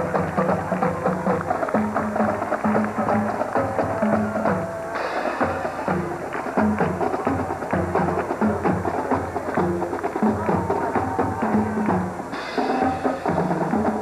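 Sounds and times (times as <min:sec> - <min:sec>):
band music: 0:00.0 - 0:14.0
drums and percussion: 0:00.0 - 0:14.0
rhythmic bass line: 0:00.0 - 0:14.0.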